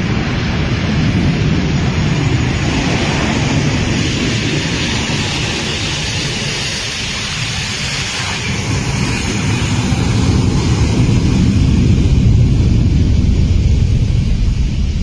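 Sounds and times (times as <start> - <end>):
jet airliner rumble: 0.0 - 15.0.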